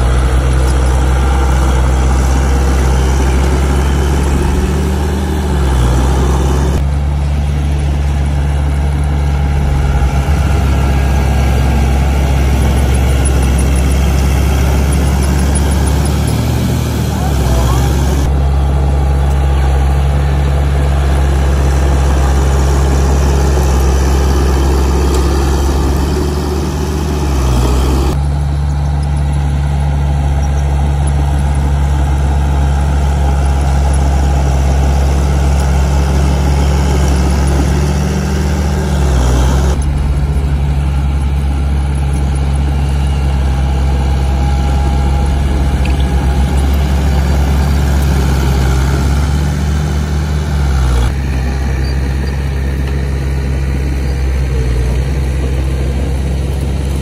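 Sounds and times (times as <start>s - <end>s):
higher-pitched machine noise: 0.0s - 28.2s, 32.6s - 52.9s
heavy diesel engine running: 0.0s - 57.0s.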